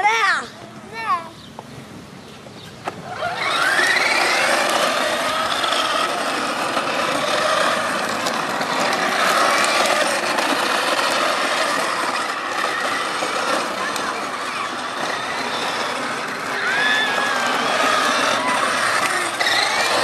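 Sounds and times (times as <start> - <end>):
plastic wheels grinding on paving: 2.9 - 20.0
electric motor whine: 3.0 - 20.0.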